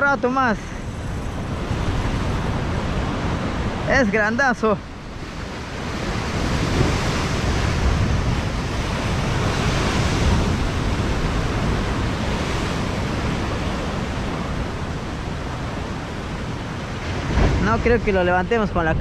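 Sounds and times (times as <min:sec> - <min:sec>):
waves breaking on rocks: 0:00.0 - 0:19.0.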